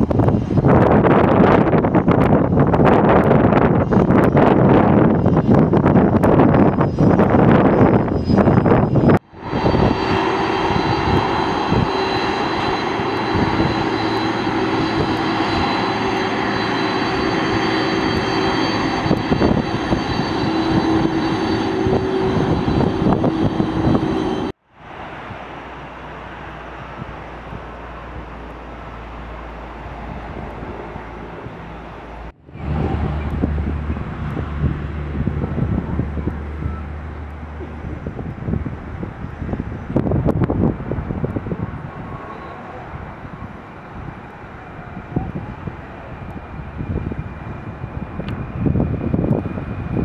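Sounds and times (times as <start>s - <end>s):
airliner engines whining: 0.0s - 50.0s.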